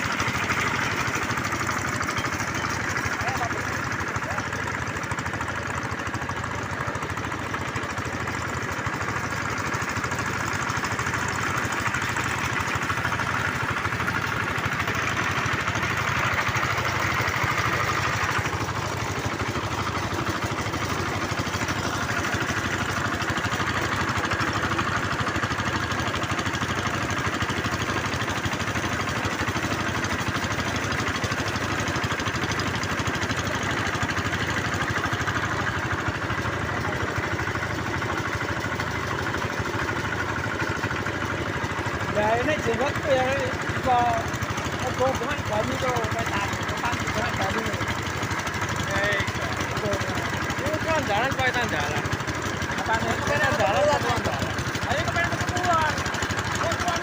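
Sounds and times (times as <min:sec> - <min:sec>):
drilling machine engine running: 0:00.0 - 0:57.0.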